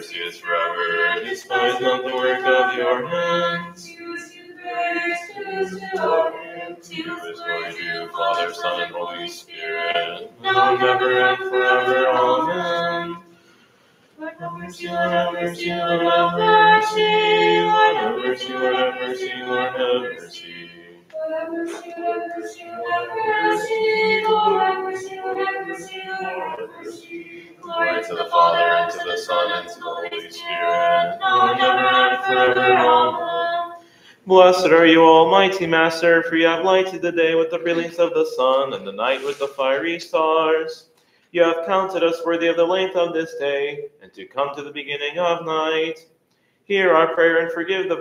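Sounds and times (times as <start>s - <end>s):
voices chanting a hymn: 0.0s - 13.6s, 14.2s - 46.0s, 46.7s - 48.0s.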